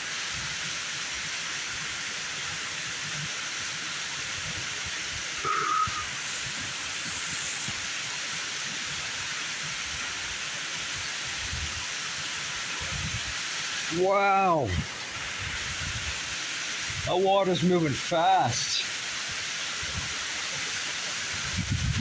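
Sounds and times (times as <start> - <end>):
heavy rain pouring: 1.9 - 22.0.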